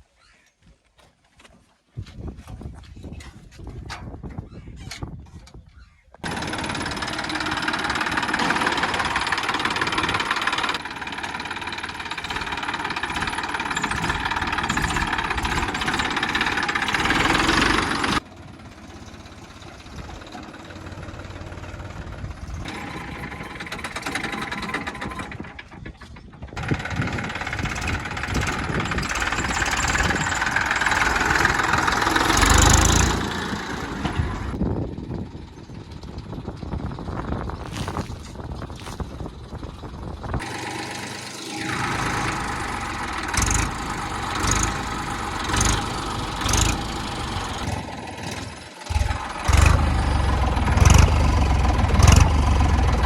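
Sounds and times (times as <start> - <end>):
heavy machinery diesel engines: 6.2 - 53.0.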